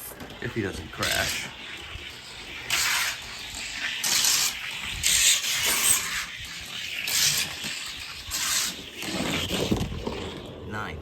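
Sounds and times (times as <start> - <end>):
toy truck wheels rolling on track: 0.0 - 10.6.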